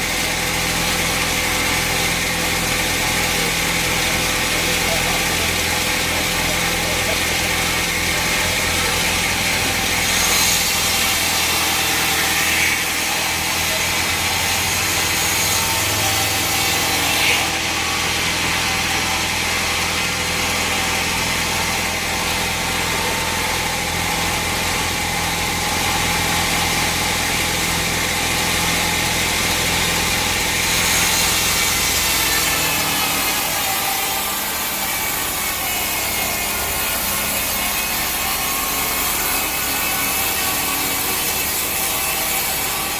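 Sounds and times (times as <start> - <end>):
saw cutting through timber: 0.0 - 42.9.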